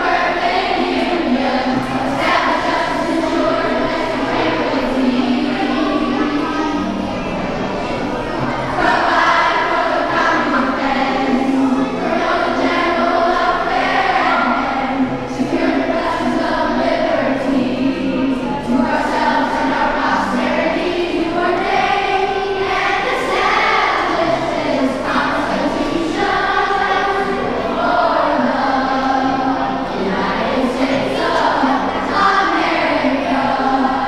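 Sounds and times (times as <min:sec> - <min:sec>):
children singing together: 0:00.0 - 0:34.0.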